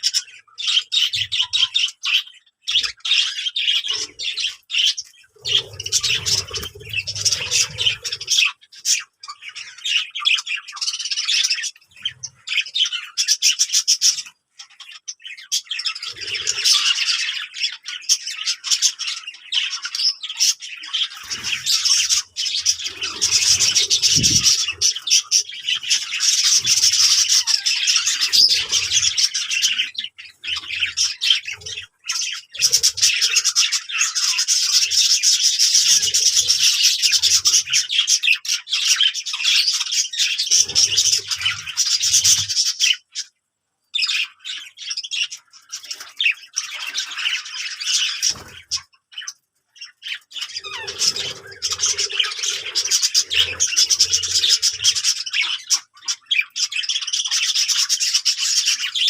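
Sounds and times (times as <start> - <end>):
budgerigars chirping and squawking: 0.0 - 59.0.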